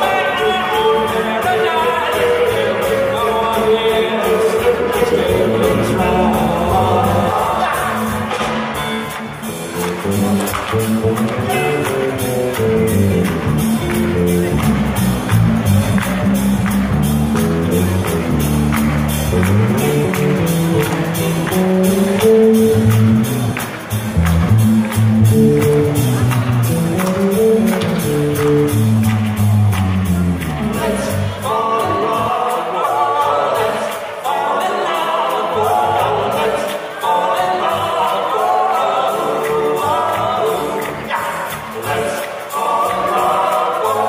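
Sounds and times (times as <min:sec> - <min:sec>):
bass guitar: 0:00.0 - 0:34.6, 0:37.4 - 0:44.0
drums: 0:00.0 - 0:44.0.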